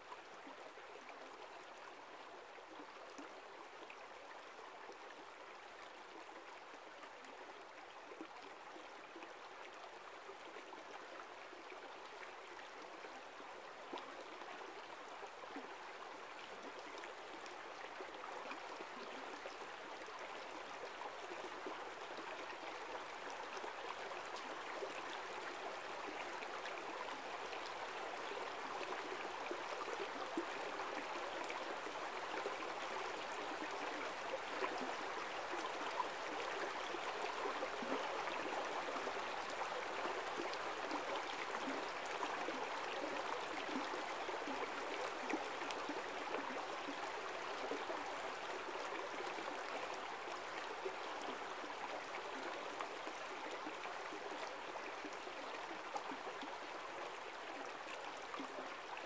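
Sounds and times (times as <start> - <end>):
stream babbling: 9.4 - 59.0.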